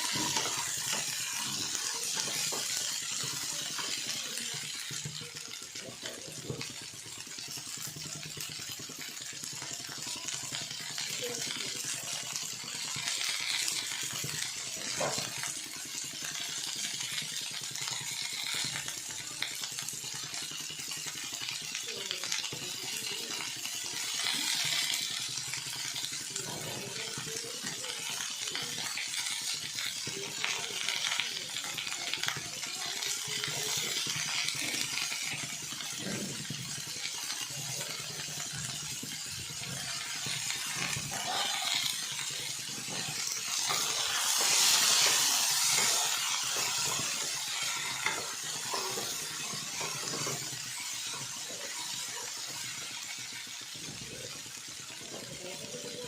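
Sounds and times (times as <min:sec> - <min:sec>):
vegetables sizzling in a pan: 0:00.0 - 0:56.0.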